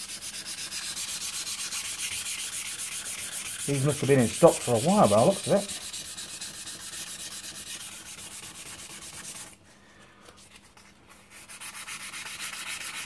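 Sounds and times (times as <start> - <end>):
abrasive paper rubbing on metal: 0.0 - 9.6, 11.1 - 13.0.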